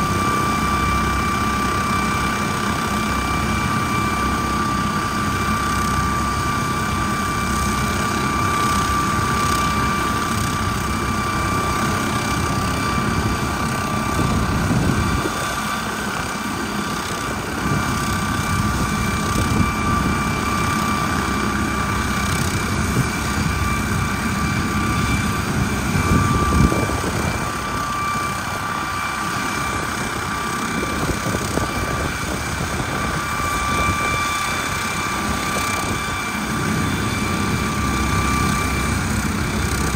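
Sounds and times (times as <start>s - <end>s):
helicopter rotor rushing: 0.0s - 39.9s
helicopter turbine whine: 0.0s - 39.9s.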